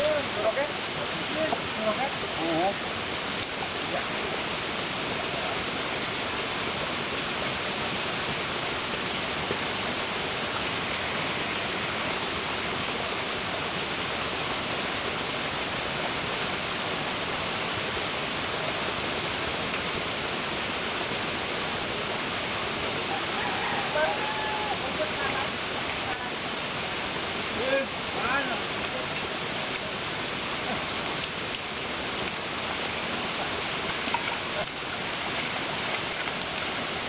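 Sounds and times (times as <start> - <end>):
running water: 0.0 - 37.0.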